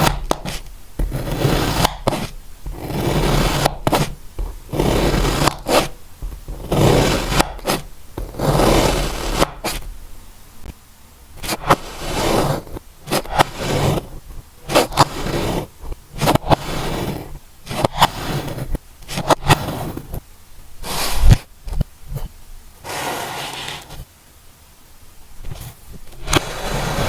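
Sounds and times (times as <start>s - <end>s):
sand scraping: 0.0s - 9.9s, 11.4s - 20.2s, 20.8s - 21.5s, 22.8s - 24.1s, 25.5s - 27.0s.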